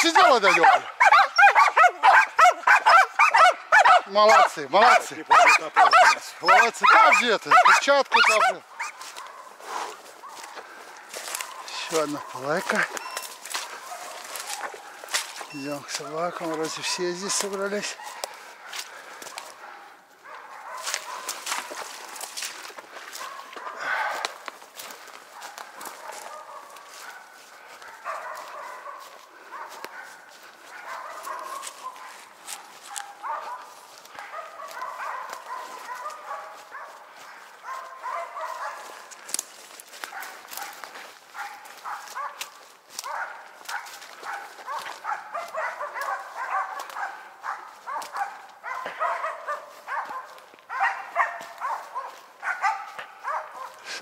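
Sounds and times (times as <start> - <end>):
dogs barking: 0.0 - 54.0
footsteps on forest litter: 0.0 - 54.0.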